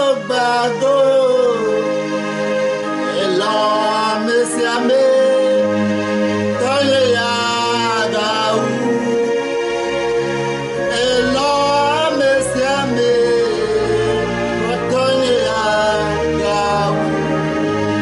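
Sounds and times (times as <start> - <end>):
instrumental backing: 0.0 - 18.0
man singing a hymn: 0.0 - 18.0.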